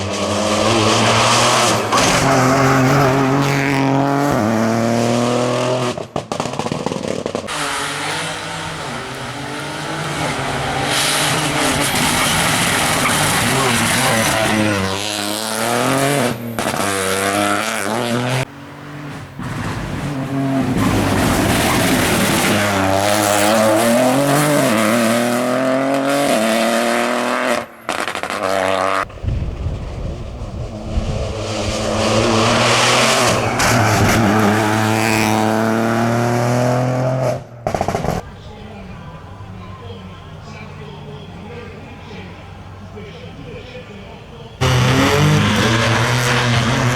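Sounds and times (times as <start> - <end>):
rally car engine revving: 0.0 - 38.3, 44.6 - 46.9.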